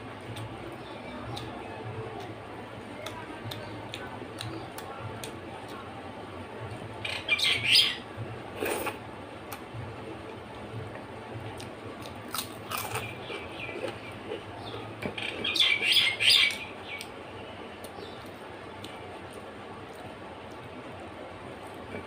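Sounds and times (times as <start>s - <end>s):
wet crackly eating sounds: 0.2s - 6.9s, 8.5s - 22.0s.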